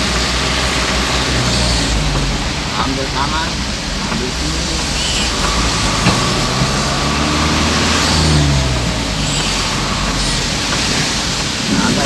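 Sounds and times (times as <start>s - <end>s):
heavy rain: 0.0s - 12.0s
tyres on wet road: 0.0s - 12.0s
vehicle engine pulling away: 0.0s - 12.0s.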